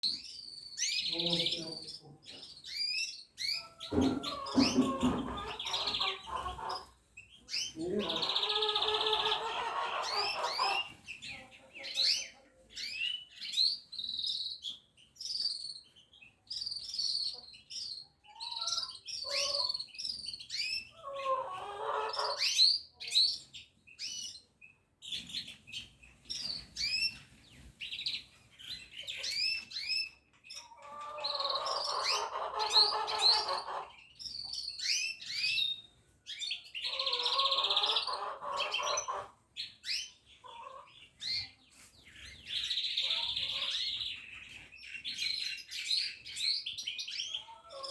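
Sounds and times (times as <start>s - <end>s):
small songbirds chirping: 0.0s - 47.9s.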